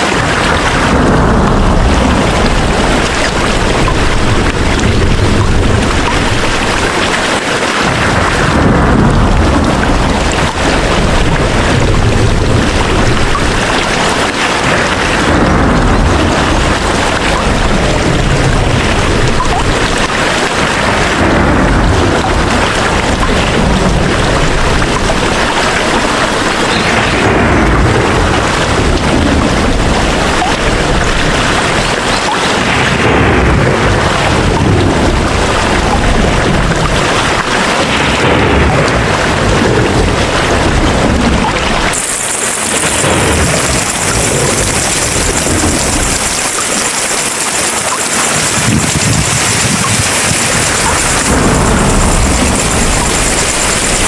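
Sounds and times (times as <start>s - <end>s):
heavy rain falling: 0.0s - 54.0s
low rumble: 0.0s - 54.0s.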